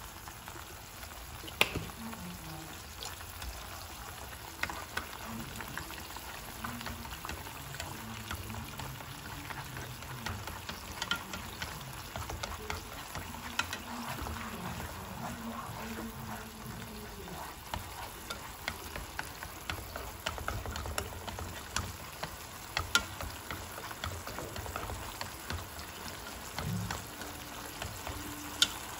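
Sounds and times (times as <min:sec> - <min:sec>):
tomatoes sizzling in oil: 0:00.0 - 0:28.9
chopsticks clicking against pan: 0:01.5 - 0:02.0, 0:03.4 - 0:28.9.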